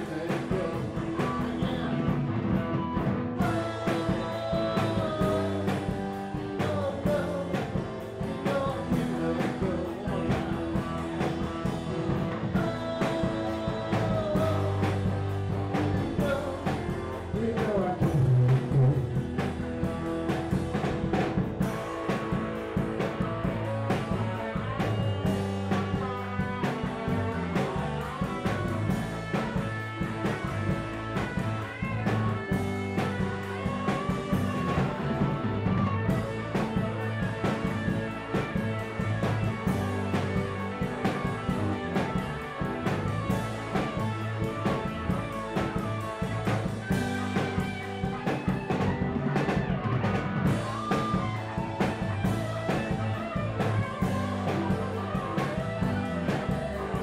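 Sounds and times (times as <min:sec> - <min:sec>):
drum kit steady beat: 0:00.0 - 0:57.0
electric guitars: 0:00.0 - 0:57.0.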